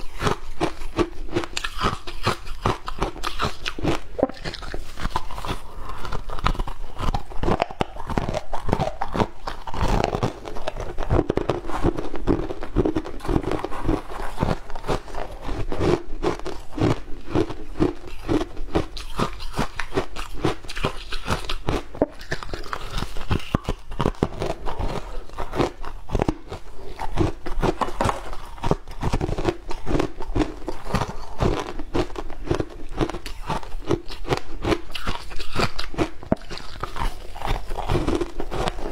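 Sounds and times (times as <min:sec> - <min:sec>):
ice being crunched and chewed: 0:00.0 - 0:38.9.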